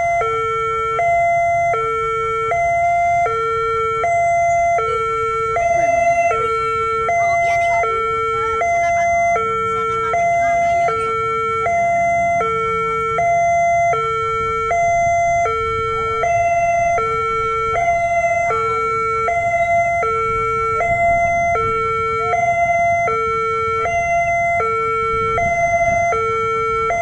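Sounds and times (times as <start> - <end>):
level crossing two-tone alarm: 0.0 - 27.0.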